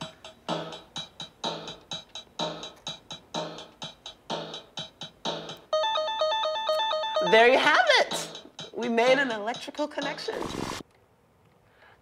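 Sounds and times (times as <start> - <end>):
drum-machine rhythm: 0.0 - 10.8.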